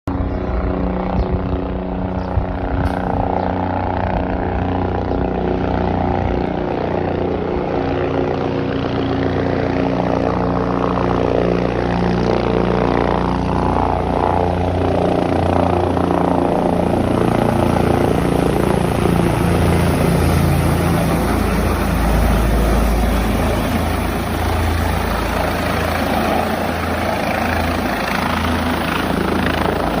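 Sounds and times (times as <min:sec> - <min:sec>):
helicopter rotor and engine: 0:00.1 - 0:30.0.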